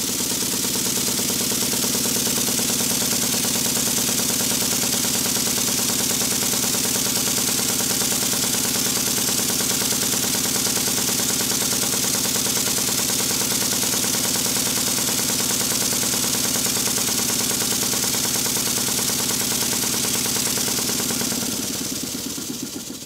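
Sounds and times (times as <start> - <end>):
model steam engine beating: 0.0 - 23.0.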